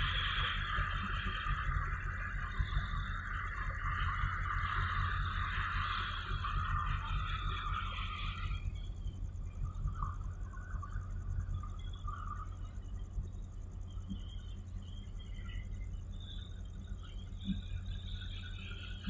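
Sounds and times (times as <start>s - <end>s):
faint insect chirping: 0.0s - 19.0s
steady low rumble: 0.0s - 19.0s.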